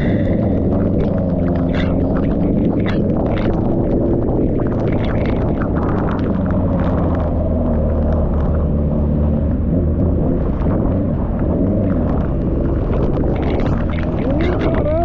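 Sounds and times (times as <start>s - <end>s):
motorcycle engine running: 0.0s - 15.0s
wind rumble on microphone: 0.0s - 15.0s.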